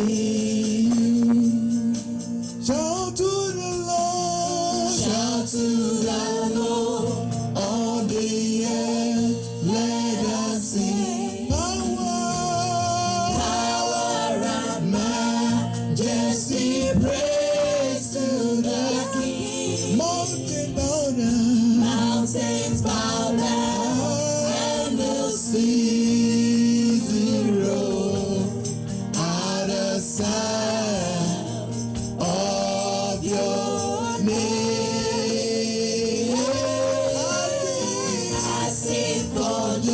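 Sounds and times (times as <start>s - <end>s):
gospel singing with instruments: 0.0s - 39.9s.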